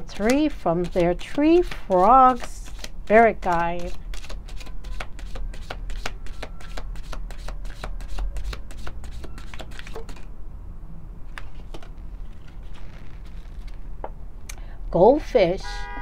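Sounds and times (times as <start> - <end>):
cards being shuffled: 0.0 - 10.3, 11.3 - 13.9.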